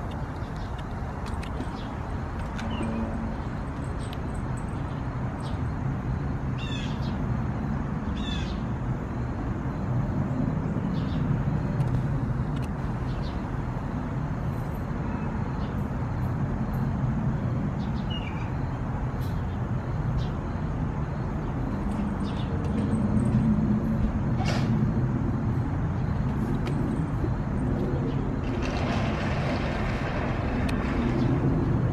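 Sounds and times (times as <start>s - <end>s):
distant road traffic rumble: 0.0s - 31.9s.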